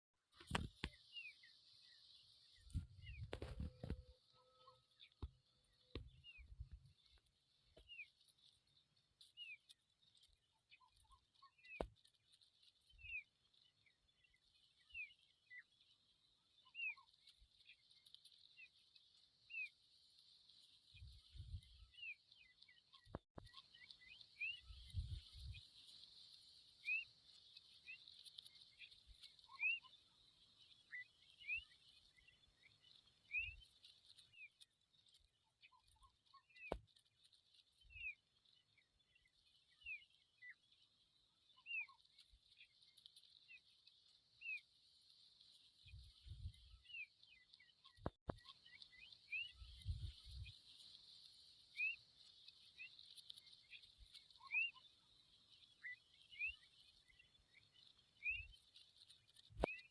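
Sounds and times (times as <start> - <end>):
fledglings chirping: 0.4 - 59.9.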